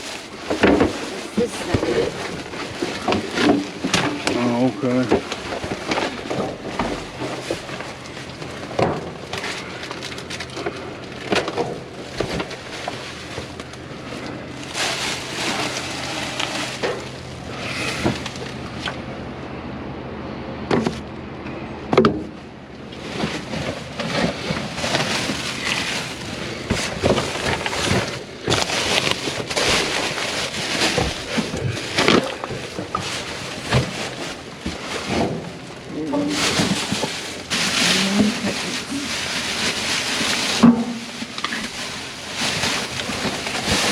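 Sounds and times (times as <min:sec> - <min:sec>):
rummaging through a dumpster: 0:00.0 - 0:19.3, 0:20.6 - 0:43.9.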